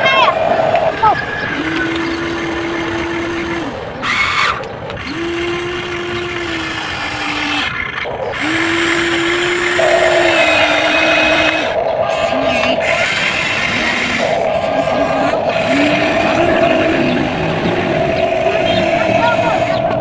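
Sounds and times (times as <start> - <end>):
toy electric motors whining: 0.0 - 20.0.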